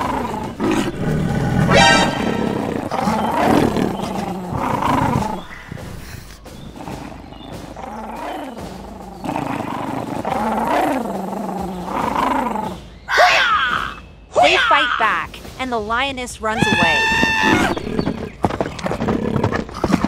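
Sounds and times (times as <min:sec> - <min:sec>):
lion growling and roaring: 0:00.0 - 0:14.0, 0:16.6 - 0:20.0.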